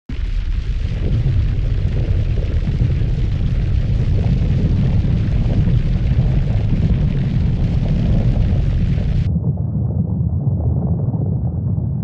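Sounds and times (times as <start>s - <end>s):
deep rumbling of volcanic eruption: 0.1s - 12.0s.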